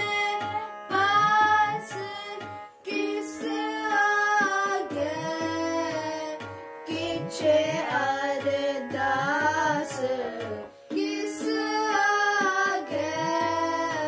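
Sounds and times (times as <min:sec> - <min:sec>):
tabla beat: 0:00.0 - 0:14.0.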